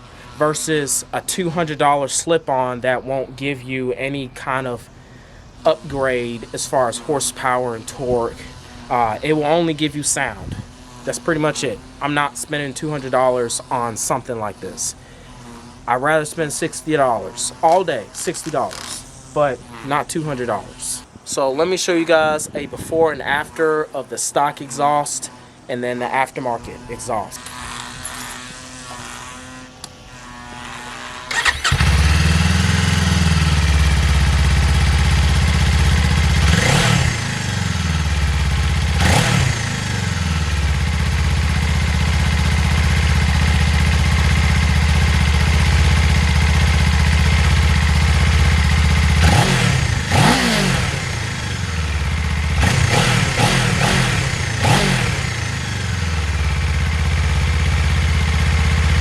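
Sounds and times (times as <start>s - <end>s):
motorcycle engine starting: 0.0s - 21.0s, 26.6s - 59.0s
motorcycle engine idling and revving: 0.0s - 21.5s, 26.6s - 59.0s.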